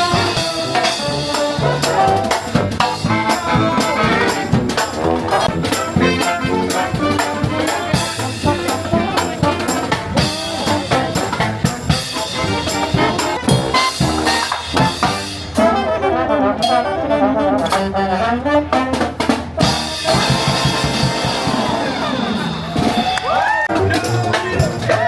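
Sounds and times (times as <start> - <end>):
jazzy brass music with drums: 0.0 - 25.0.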